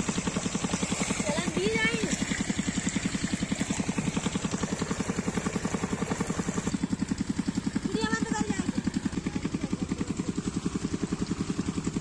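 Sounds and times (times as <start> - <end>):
diesel engine chugging: 0.0 - 12.0
water gushing from pipe: 0.0 - 12.0.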